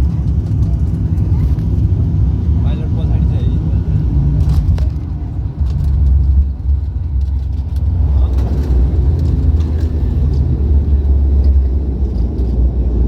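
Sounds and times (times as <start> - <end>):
turboprop engines rumbling: 0.0 - 13.0.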